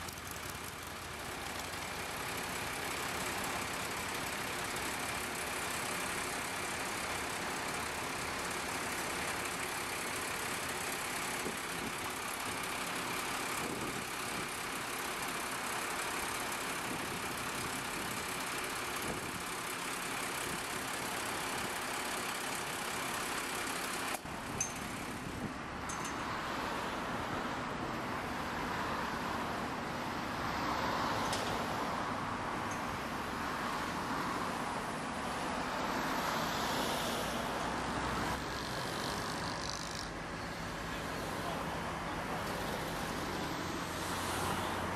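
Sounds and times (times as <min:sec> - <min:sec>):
diesel engines running: 0:00.0 - 0:44.9
road traffic noise: 0:00.0 - 0:44.9.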